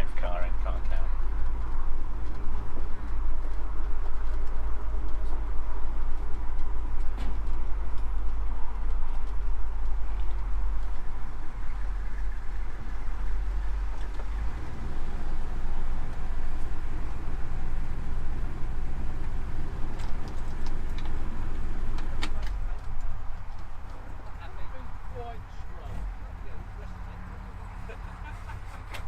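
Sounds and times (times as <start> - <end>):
car engine rumbling at low speed: 0.0 - 29.0.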